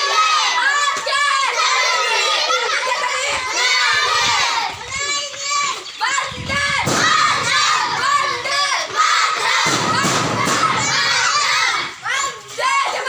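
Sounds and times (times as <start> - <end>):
children shouting in chorus: 0.0 - 13.0.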